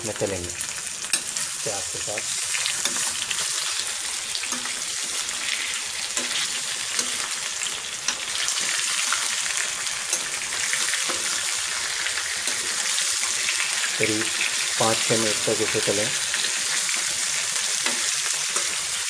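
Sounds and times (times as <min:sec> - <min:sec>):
food frying in hot oil: 0:00.0 - 0:19.0.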